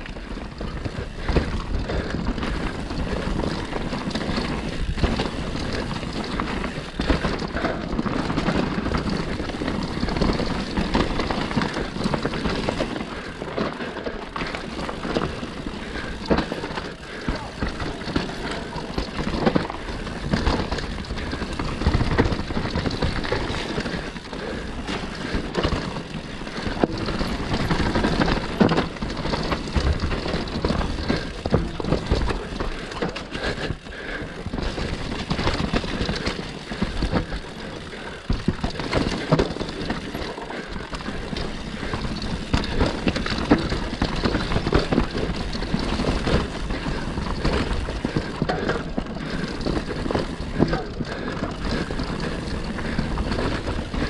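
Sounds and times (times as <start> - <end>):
bike knocks and rattles: 0.0 - 54.0
bike tyre riding noise: 0.0 - 54.0.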